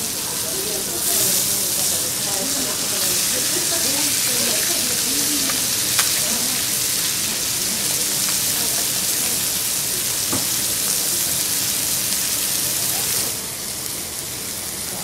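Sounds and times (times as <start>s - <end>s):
meat sizzling on a griddle: 0.0s - 15.0s.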